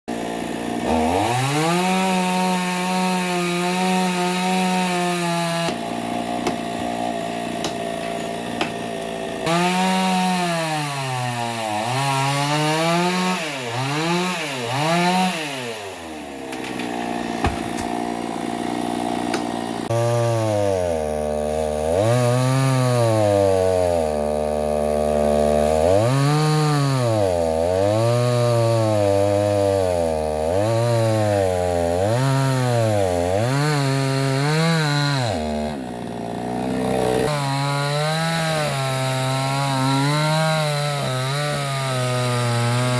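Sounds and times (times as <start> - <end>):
chainsaw cutting tree revving: 0.1 - 42.9.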